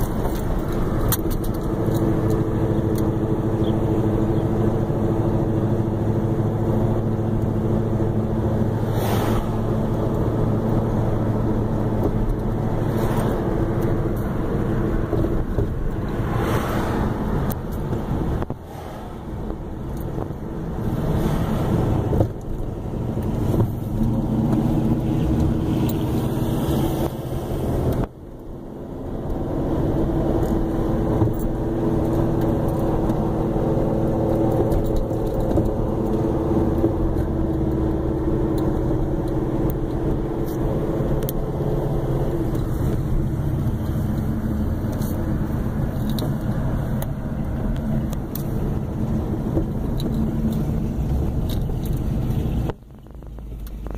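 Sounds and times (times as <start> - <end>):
car engine drone: 0.0 - 53.9
road noise: 0.0 - 53.9.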